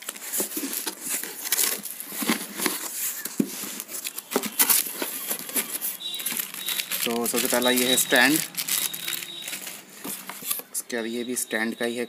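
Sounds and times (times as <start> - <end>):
cardboard flaps scraping packing: 0.0 - 10.7.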